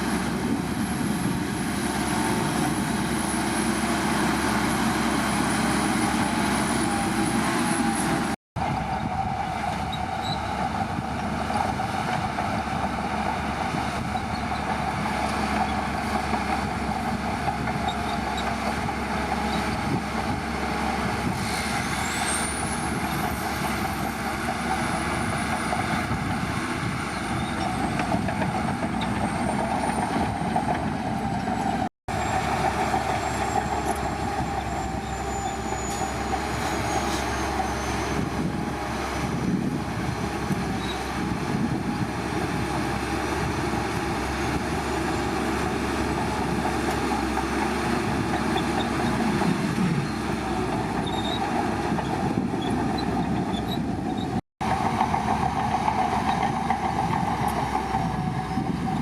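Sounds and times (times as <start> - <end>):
bulldozer diesel engine running: 0.0 - 59.0
bulldozer track noise: 0.0 - 59.0.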